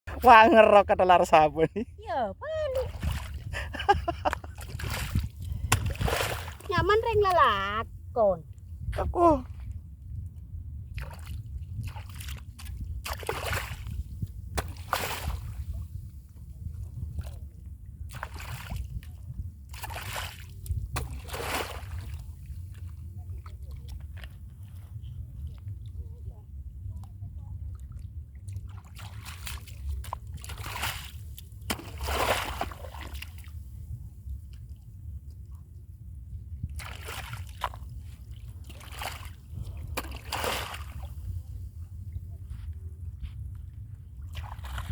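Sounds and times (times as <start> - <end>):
steady low rumble: 0.1 - 44.9
water splashing and sloshing: 0.1 - 44.9.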